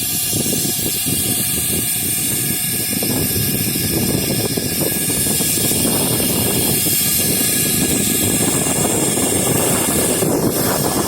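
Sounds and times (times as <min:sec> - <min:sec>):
heavy machinery running: 0:00.0 - 0:11.0
strong hiss: 0:00.0 - 0:11.0.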